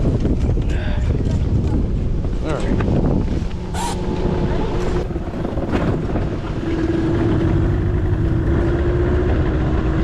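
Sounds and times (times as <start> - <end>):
wind rush: 0.0 - 10.0
outboard motor humming: 1.4 - 10.0.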